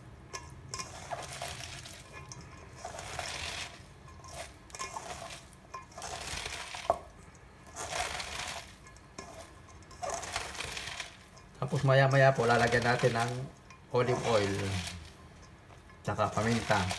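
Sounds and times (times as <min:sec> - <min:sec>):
hands kneading wet cabbage: 0:00.0 - 0:16.9.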